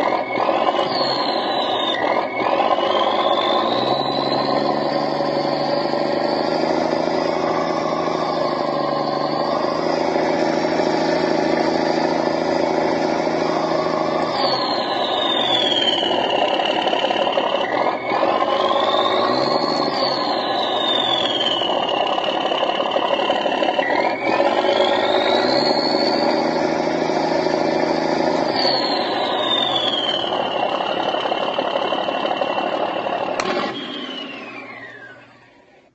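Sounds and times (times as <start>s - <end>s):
high engine whine: 0.0s - 35.9s
truck engine running: 0.0s - 35.9s.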